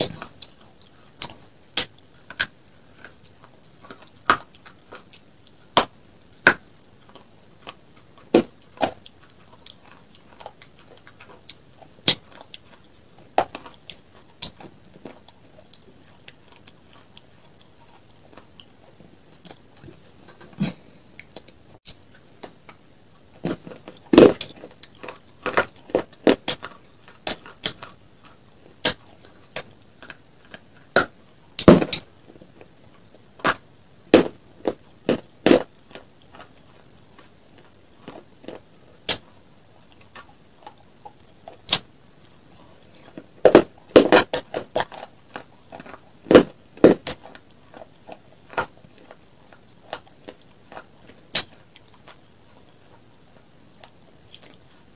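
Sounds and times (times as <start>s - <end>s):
crunchy food chewing: 0.0s - 54.9s.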